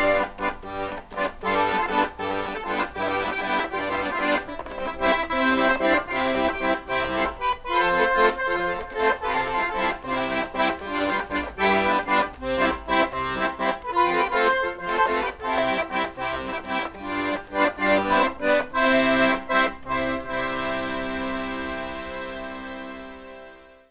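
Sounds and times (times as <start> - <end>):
background music with steady beat: 0.0 - 23.9.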